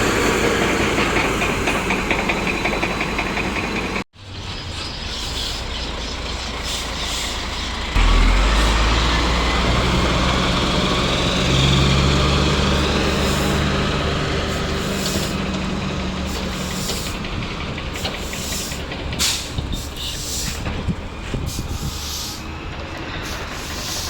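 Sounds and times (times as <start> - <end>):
heavy truck engine running: 0.0 - 4.1, 5.8 - 24.0.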